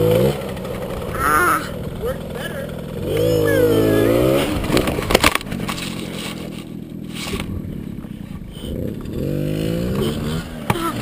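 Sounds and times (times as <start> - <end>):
dirt bike engine revving: 0.0 - 11.0
scraping: 0.7 - 11.0.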